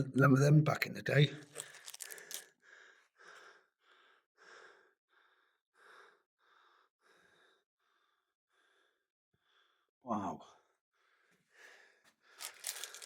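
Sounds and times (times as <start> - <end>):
person breathing quickly: 1.5 - 9.9, 10.6 - 13.0.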